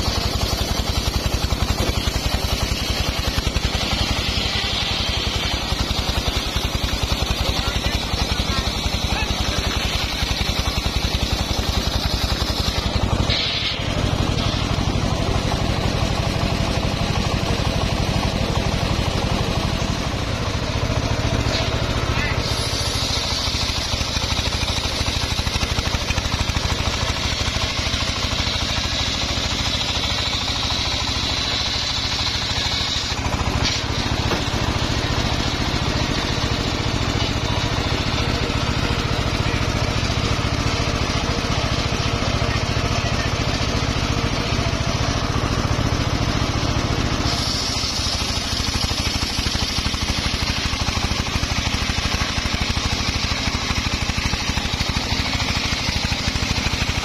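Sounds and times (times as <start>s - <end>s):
sawmill blade ripping log: 0.0s - 20.0s, 21.1s - 40.6s, 46.6s - 57.0s
low engine rumble: 0.0s - 57.0s.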